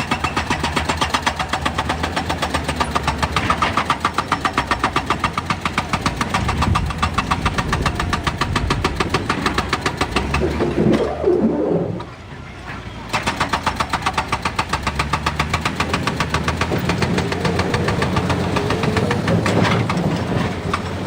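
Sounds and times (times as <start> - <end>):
excavator diesel engine running: 0.0 - 21.0
loud rough machine noise: 0.0 - 21.0.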